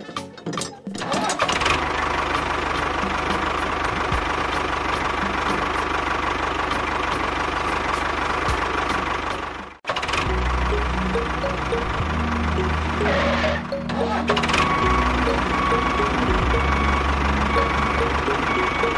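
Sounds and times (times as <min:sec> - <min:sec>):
engine running with light knocking: 0:01.1 - 0:13.6, 0:14.2 - 0:18.9.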